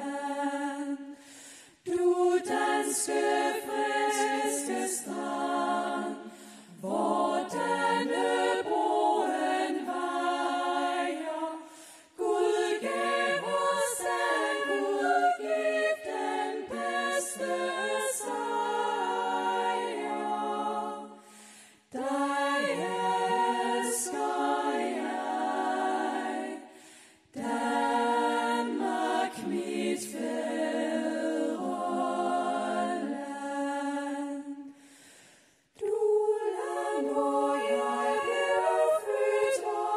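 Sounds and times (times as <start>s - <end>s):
women singing in harmony: 0.0s - 34.9s, 35.8s - 39.9s.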